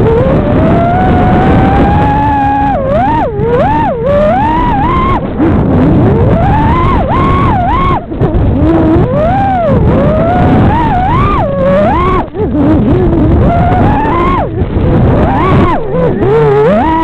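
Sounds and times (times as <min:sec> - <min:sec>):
drone motors whining: 0:00.0 - 0:17.0
rush of prop wash: 0:00.0 - 0:17.0.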